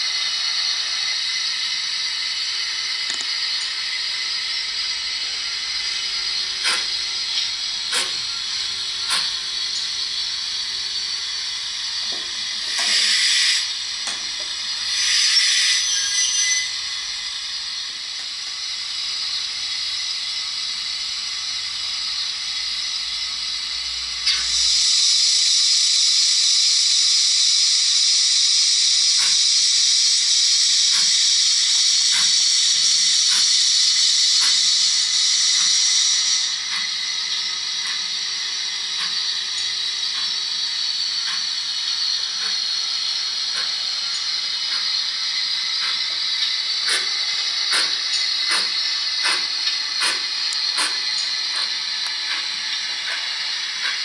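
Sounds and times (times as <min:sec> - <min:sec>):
simulated steam hiss: 0:00.0 - 0:54.0.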